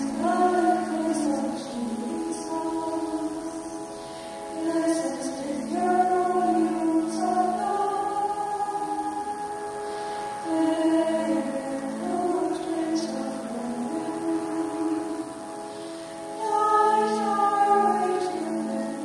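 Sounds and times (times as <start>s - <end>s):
choir singing slowly: 0.0s - 19.0s.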